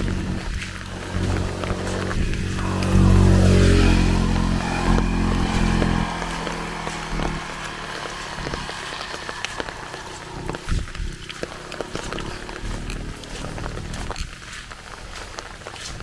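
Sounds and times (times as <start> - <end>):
rain pattering: 0.0 - 16.0
vehicle engine passing by: 0.0 - 16.0.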